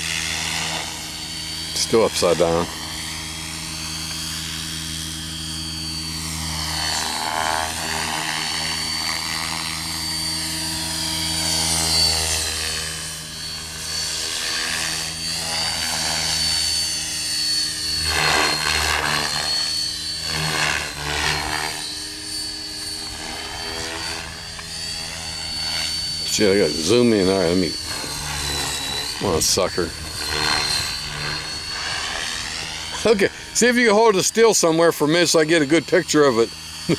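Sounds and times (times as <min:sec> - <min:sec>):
model helicopter high whine: 0:00.0 - 0:36.9
rotor drone: 0:00.0 - 0:36.9.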